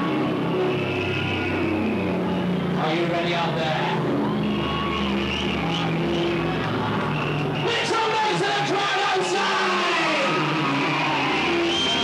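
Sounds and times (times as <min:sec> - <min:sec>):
loud club dance music: 0:00.0 - 0:12.0.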